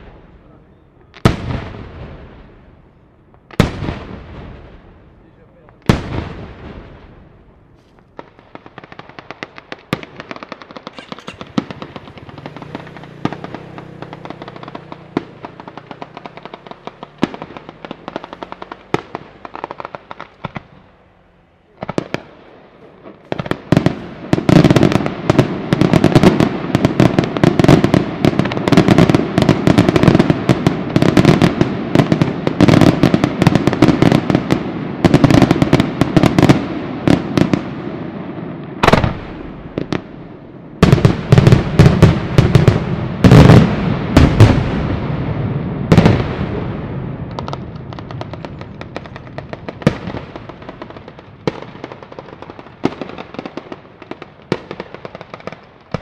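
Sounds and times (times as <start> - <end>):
firecrackers and bangs: 0.0 - 56.0.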